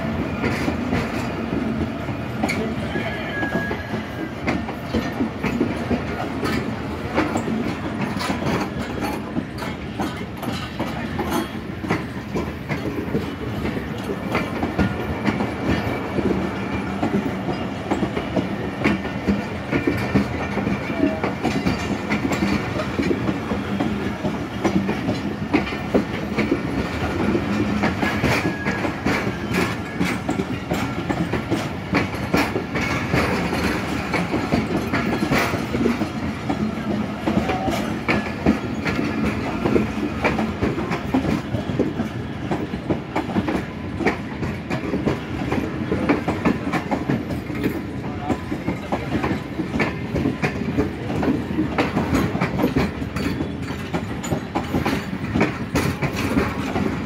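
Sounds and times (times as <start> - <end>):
train coaches rumbling past: 0.0 - 57.0
wheels clacking over rail joints: 0.1 - 57.0.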